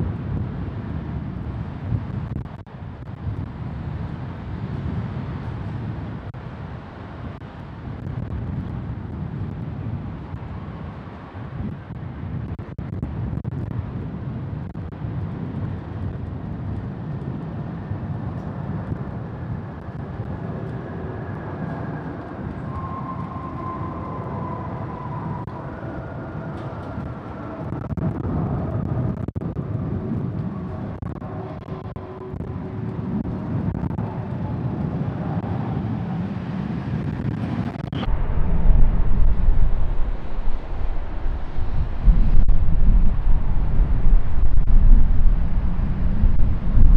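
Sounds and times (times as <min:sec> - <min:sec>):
jet engines rumbling: 0:00.0 - 0:46.9
wind buffeting microphone: 0:00.0 - 0:46.9.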